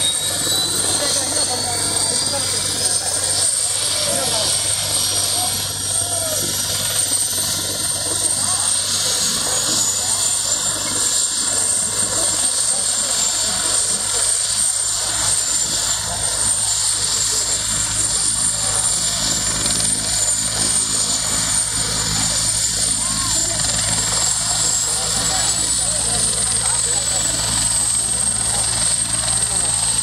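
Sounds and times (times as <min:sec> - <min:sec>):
helicopter rotor beat: 0:00.0 - 0:30.0
helicopter turbine whine: 0:00.0 - 0:30.0.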